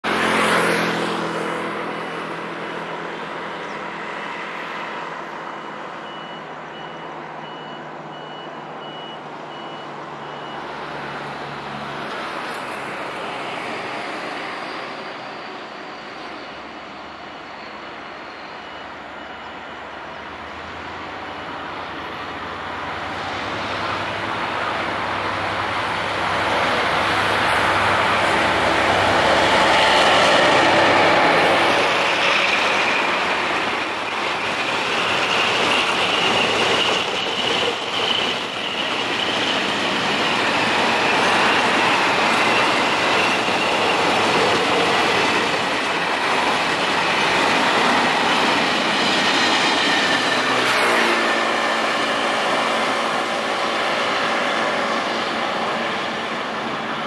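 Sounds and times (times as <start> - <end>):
traffic noise: 0.0 - 57.0
locomotive engine drone: 0.1 - 57.0.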